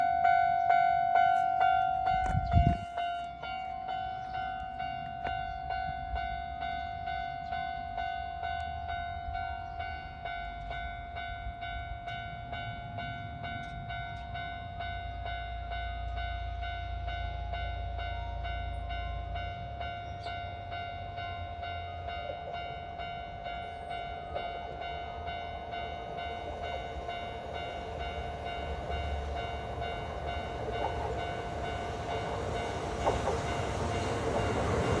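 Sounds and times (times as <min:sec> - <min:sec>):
level-crossing warning bell: 0:00.0 - 0:35.0
low train rumble: 0:00.0 - 0:35.0.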